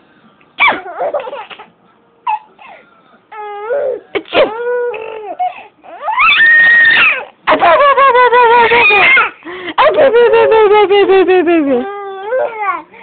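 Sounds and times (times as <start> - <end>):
baby laughing and squealing: 0.6 - 1.7, 3.4 - 12.8.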